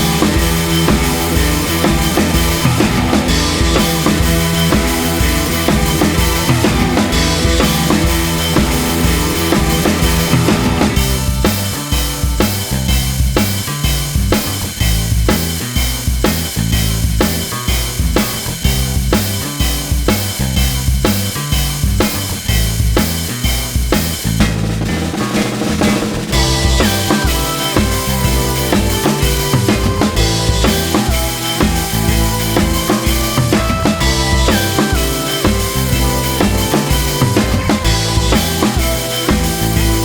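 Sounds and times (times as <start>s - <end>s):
repeating bass line: 0.0s - 25.3s, 26.2s - 40.0s
kick and snare drum beat: 0.0s - 40.0s.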